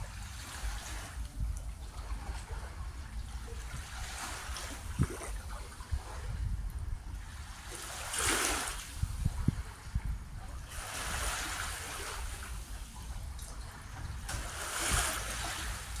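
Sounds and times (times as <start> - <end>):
small waves lapping: 0.0 - 16.0
wind rumble on microphone: 0.0 - 16.0.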